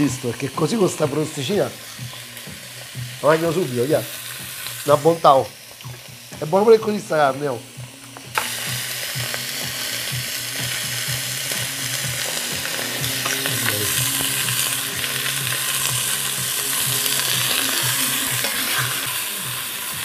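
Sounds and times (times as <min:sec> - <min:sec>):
beef sizzling in pot: 0:00.0 - 0:20.0.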